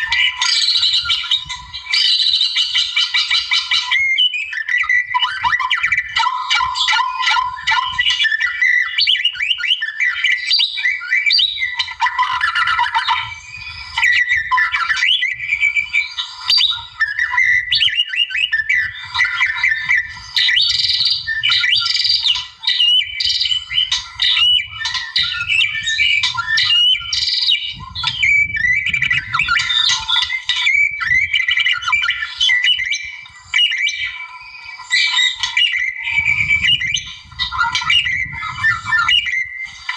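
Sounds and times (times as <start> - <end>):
bird singing whistled song: 0.0 - 39.9.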